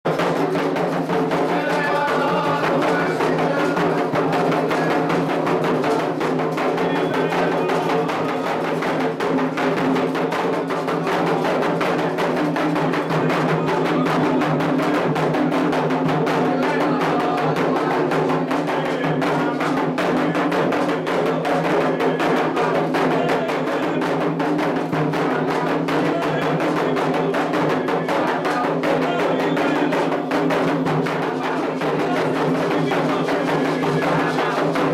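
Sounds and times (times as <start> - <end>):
hand drums playing: 0.0 - 34.9.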